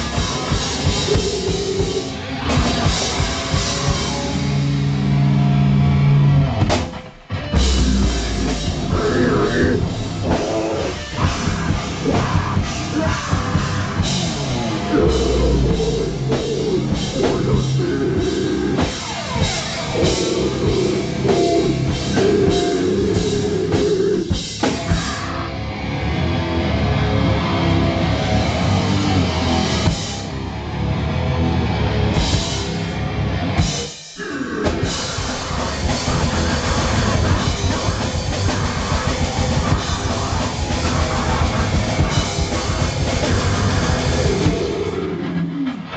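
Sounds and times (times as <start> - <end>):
heavy rock band playing live: 0.0 - 45.9.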